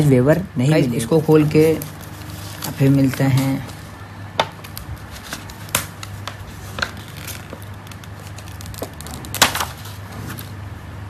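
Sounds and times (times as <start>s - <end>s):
paper crackling and rustling: 1.3s - 10.6s.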